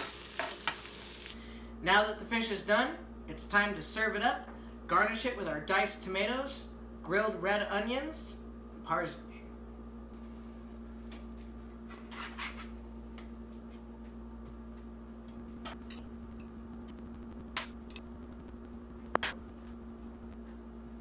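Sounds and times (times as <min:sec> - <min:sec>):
steady low hum: 0:01.2 - 0:21.0.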